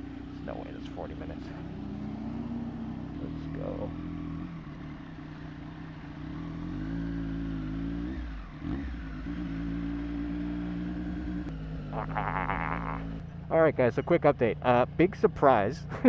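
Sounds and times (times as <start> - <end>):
motorcycle engine pulling away: 0.0 - 13.6.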